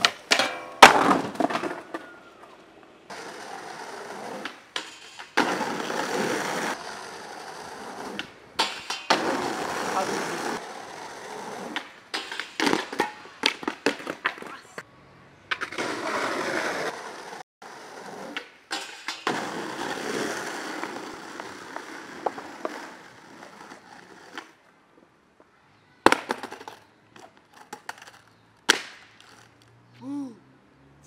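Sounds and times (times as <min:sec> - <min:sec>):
skateboard clacking on ground: 0:00.0 - 0:14.8, 0:15.5 - 0:17.4, 0:18.2 - 0:24.6, 0:26.0 - 0:29.7
skateboard wheels rolling on concrete: 0:00.0 - 0:30.2.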